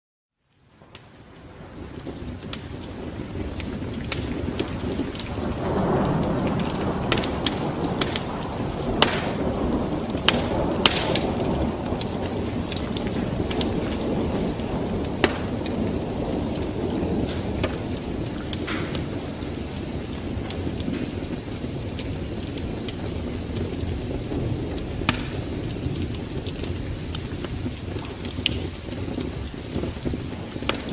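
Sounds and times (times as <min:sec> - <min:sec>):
wood fire crackling: 0:00.4 - 0:30.9.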